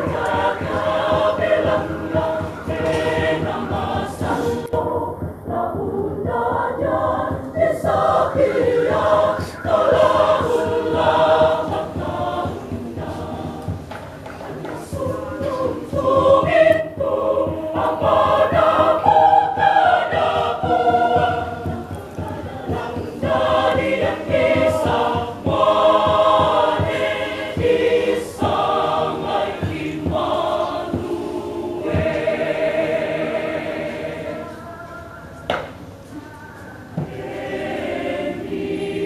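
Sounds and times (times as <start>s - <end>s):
church choir singing: 0.0s - 35.3s, 37.0s - 39.0s.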